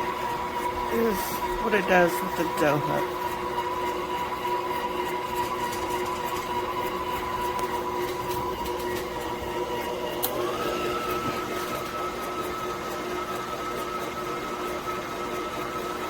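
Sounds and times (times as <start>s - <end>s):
stand mixer motor whine: 0.0s - 16.0s.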